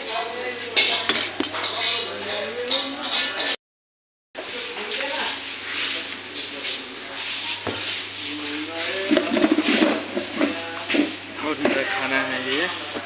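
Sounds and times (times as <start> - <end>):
muffled voices: 0.0 - 3.6, 4.4 - 13.0.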